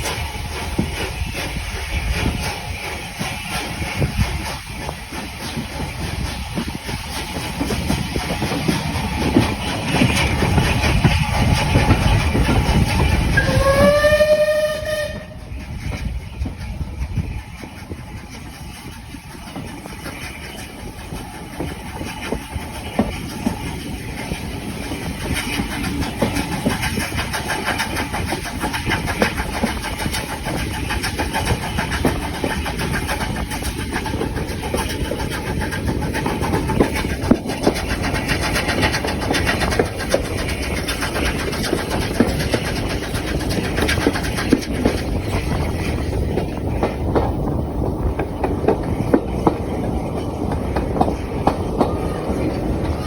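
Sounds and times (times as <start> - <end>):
train running along the line: 0.0 - 53.0.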